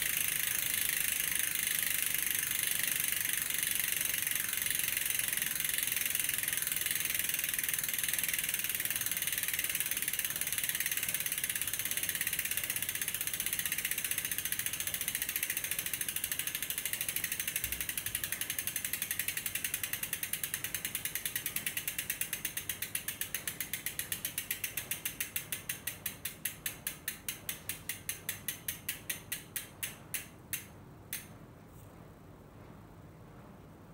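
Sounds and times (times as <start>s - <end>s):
bicycle hub ratcheting clicks: 0.0s - 31.3s.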